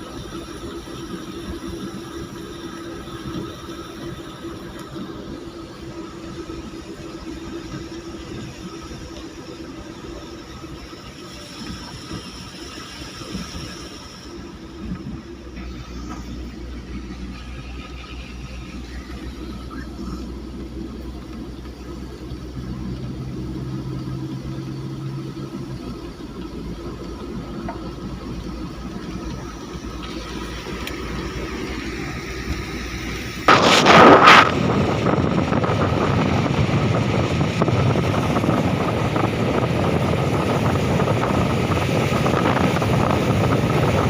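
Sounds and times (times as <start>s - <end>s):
low hum: 0.0s - 44.0s
road noise: 0.0s - 44.0s
vehicle engine running: 0.0s - 44.0s.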